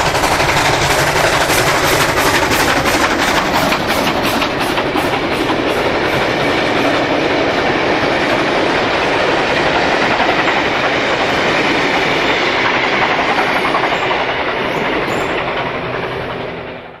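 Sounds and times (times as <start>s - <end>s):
train wheels clattering over rail joints: 0.0s - 17.0s.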